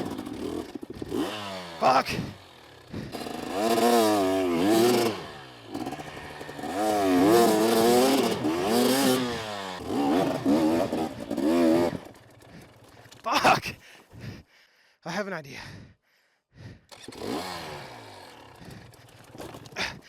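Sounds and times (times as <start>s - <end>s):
dirt bike engine revving: 0.0s - 13.5s, 16.9s - 20.0s.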